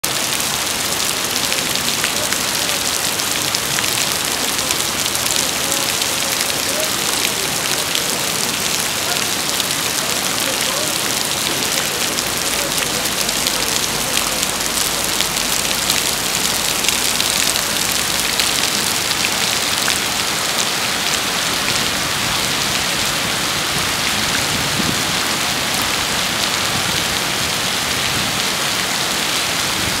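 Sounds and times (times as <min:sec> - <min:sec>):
steady rain on water and pavement: 0:00.0 - 0:30.0.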